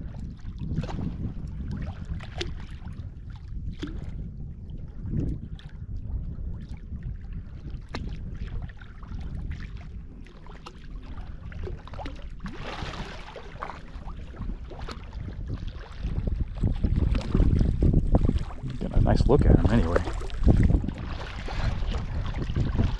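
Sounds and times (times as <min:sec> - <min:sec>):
steady low rumble: 0:00.0 - 0:22.9
water sloshing around kayak: 0:00.0 - 0:22.9.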